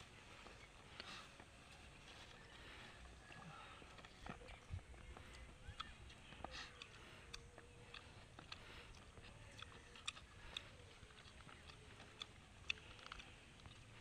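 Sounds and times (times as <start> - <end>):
mouth chewing with wet clicks: 0.2 - 1.6, 2.3 - 14.0.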